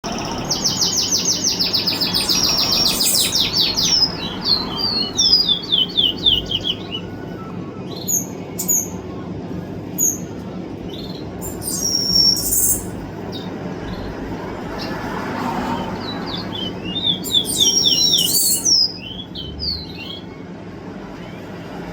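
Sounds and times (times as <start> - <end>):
songbird singing: 0.0 - 9.2, 9.9 - 20.5.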